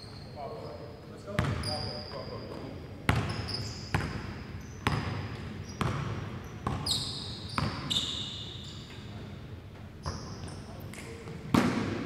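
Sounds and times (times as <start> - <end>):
sneaker squeaks: 0.0 - 9.3, 10.0 - 11.8.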